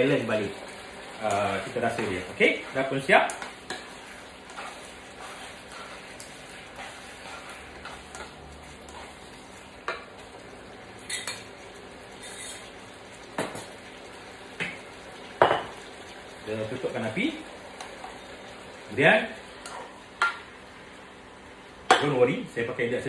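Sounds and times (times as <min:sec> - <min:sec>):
food sizzling in a wok: 0:00.0 - 0:22.7.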